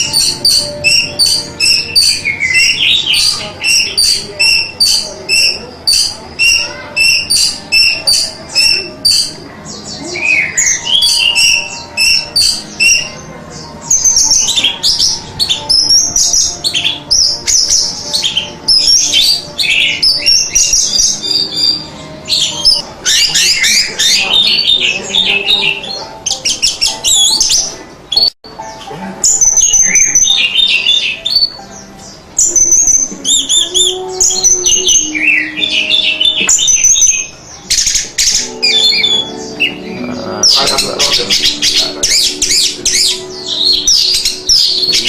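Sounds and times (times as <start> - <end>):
thrush singing: 0.0 - 28.3, 28.9 - 45.0.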